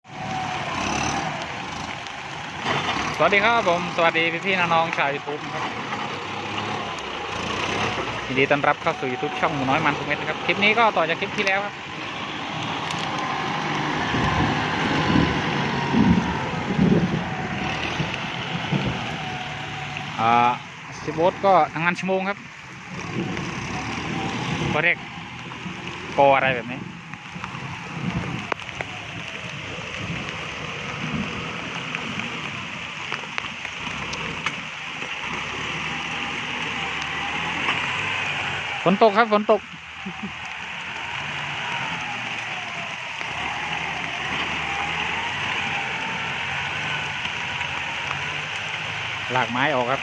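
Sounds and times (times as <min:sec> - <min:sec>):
heavy rain hiss: 0:00.1 - 0:50.0
rain drop ticks: 0:00.1 - 0:50.0.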